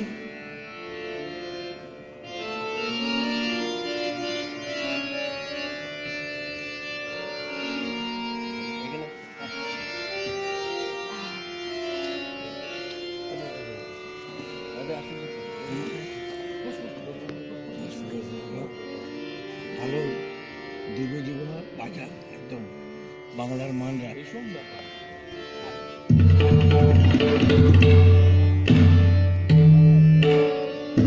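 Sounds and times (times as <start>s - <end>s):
harmonium melody: 0.0s - 31.0s.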